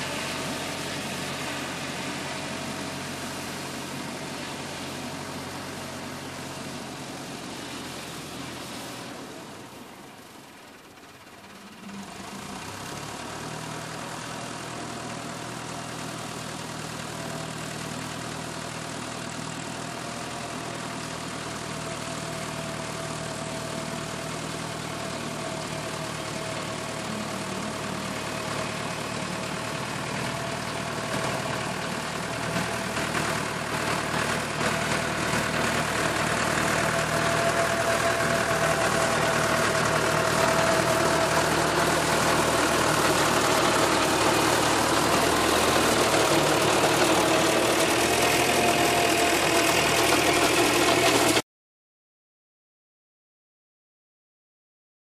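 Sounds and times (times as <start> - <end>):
rotary mower cutting grass: 0.0 - 51.4
tractor engine running: 0.0 - 51.4.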